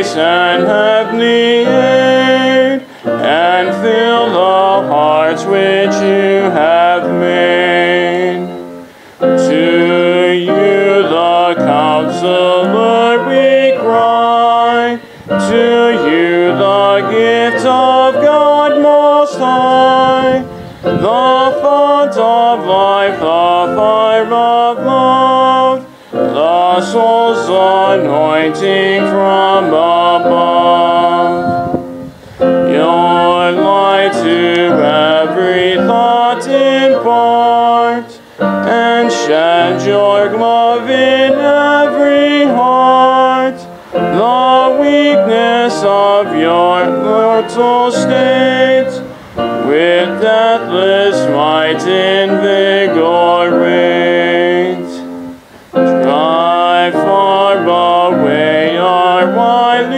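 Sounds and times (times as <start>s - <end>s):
group singing a hymn: 0.0s - 59.9s
instrumental accompaniment: 0.0s - 59.9s.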